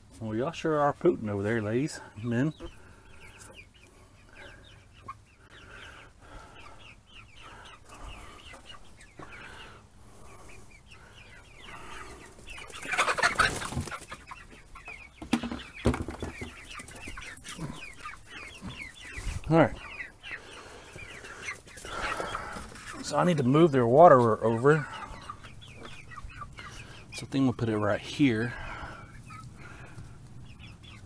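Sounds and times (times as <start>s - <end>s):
young chickens peeping and clucking: 0.0s - 31.0s.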